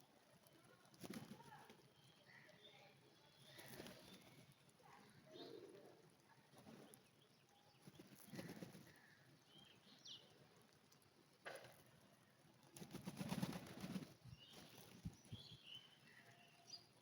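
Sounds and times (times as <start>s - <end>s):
pigeons: 0.0s - 17.0s.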